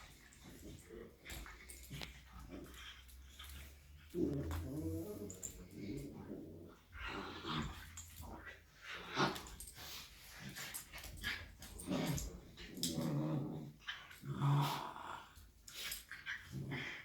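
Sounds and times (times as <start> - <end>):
puppies play-growling: 0.0 - 17.0.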